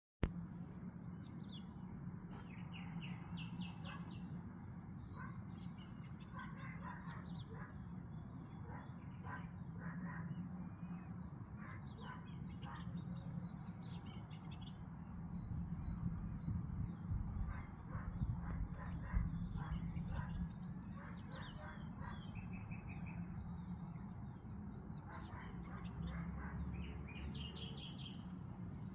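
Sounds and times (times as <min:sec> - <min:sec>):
small birds chirping: 0:00.6 - 0:28.9.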